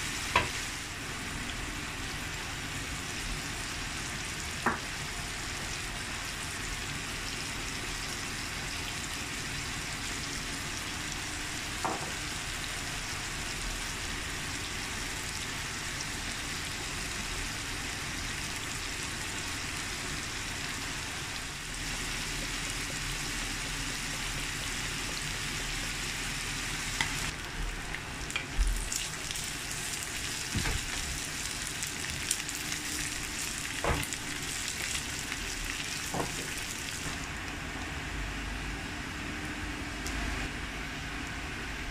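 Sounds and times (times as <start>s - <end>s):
meat sizzling in a pan: 0.0s - 37.4s.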